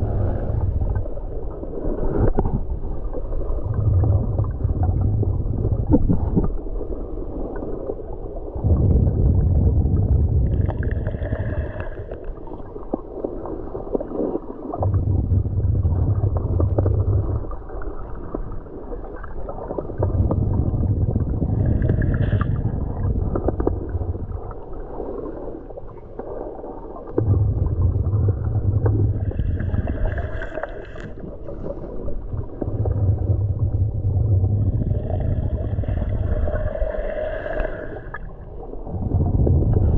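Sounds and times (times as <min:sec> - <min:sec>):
underwater rumble and gurgling: 0:00.0 - 0:39.9.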